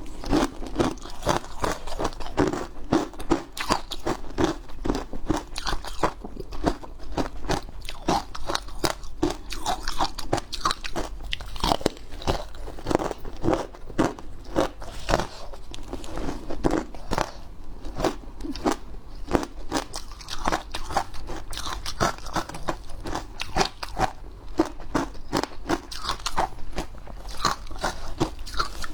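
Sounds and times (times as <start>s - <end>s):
ice being chewed: 0.0s - 28.9s.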